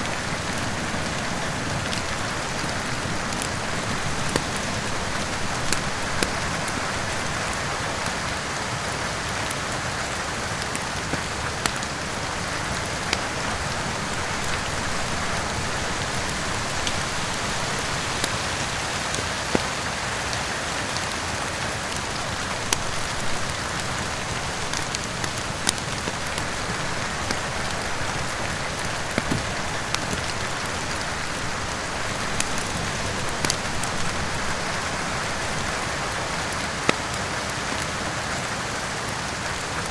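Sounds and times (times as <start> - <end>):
heavy rain: 0.0 - 39.9
wood fire crackling: 0.0 - 39.9.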